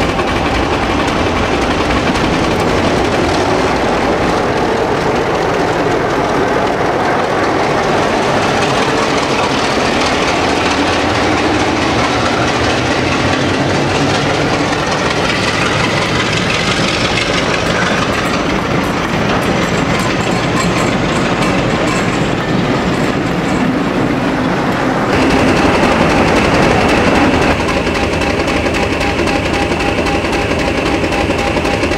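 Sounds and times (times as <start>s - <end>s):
diesel locomotive engine: 0.0s - 31.9s
train wheel noise: 0.0s - 31.9s
wheels clicking over rail joints: 0.0s - 31.9s.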